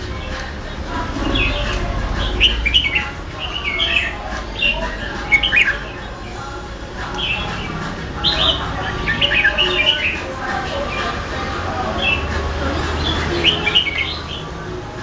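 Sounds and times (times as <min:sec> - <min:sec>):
bulbul singing chirpy phrases: 0:00.0 - 0:15.0.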